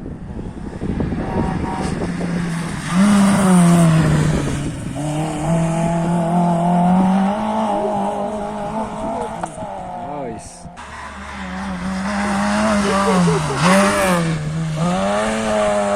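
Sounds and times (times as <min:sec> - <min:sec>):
rally car engine accelerating: 0:00.0 - 0:15.9.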